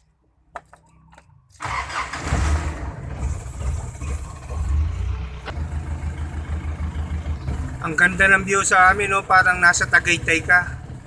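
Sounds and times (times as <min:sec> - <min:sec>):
engine starting and rumbling: 0:01.5 - 0:11.0.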